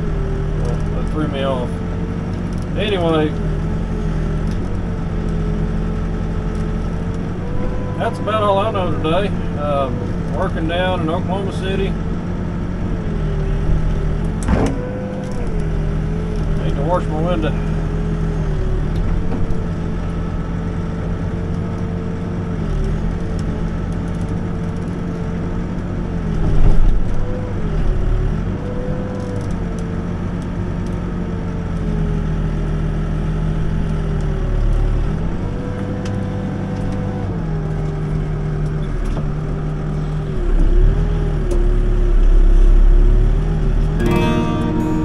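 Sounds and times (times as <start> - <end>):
backhoe diesel engine running: 0.0 - 45.0.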